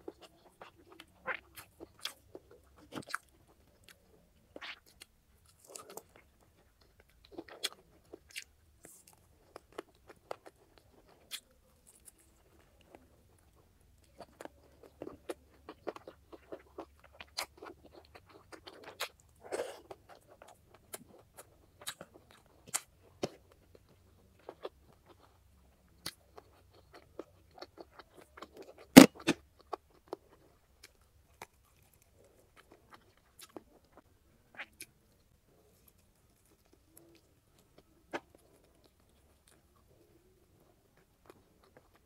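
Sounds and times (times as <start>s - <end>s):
biting and chewing chicken: 0.0s - 42.0s.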